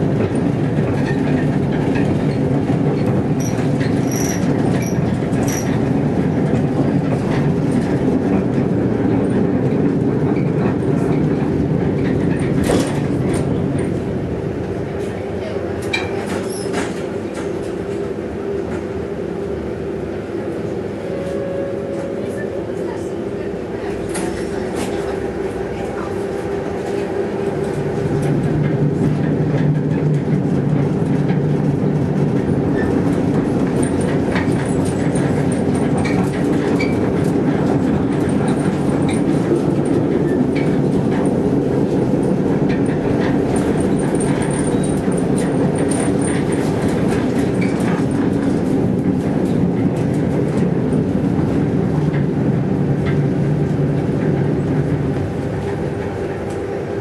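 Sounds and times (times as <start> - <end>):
rolling rail noise: 0.0 - 57.0
tram motor hum: 0.0 - 57.0.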